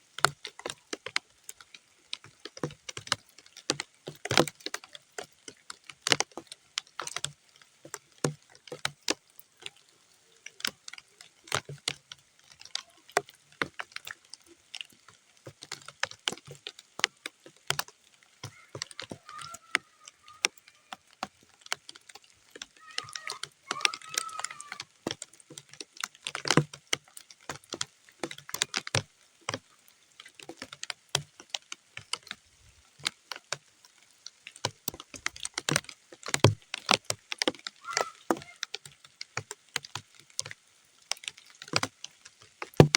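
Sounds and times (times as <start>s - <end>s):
raindrops tapping on mud: 0.0s - 42.9s.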